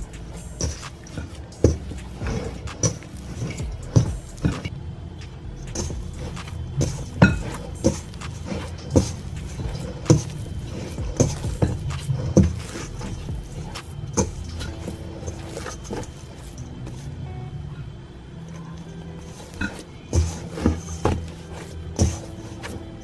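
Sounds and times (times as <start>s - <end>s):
dough thumping and squelching: 0.0s - 4.7s, 5.6s - 17.1s, 19.2s - 23.0s.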